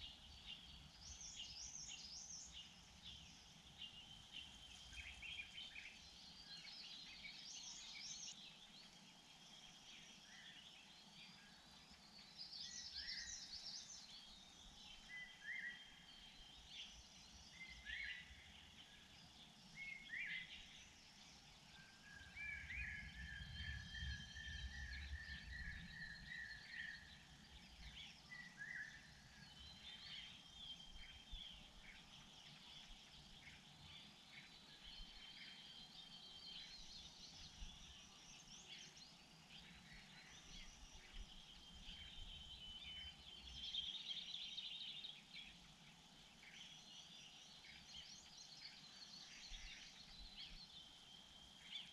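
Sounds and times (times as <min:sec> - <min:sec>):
birds chirping and singing: 0:00.0 - 0:51.9.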